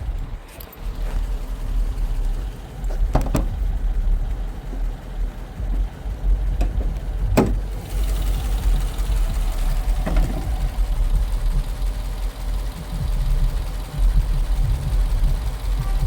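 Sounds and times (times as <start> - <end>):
engine idling with light tick: 0.0 - 16.0.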